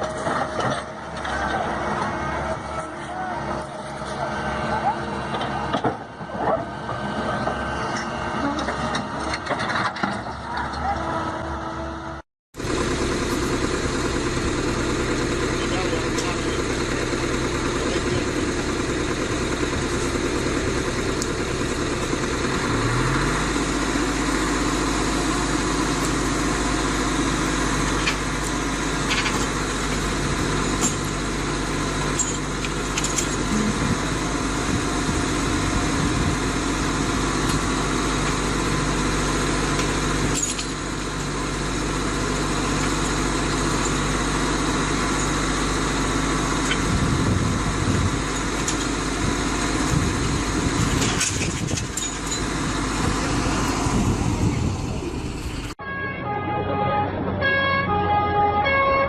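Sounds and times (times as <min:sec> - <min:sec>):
heavy machine engine running: 0:00.0 - 0:58.7.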